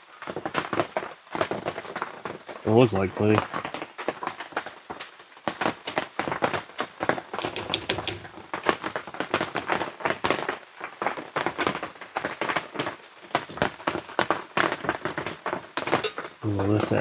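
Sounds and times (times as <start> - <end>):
rain tapping on an awning: 0.0 - 17.0.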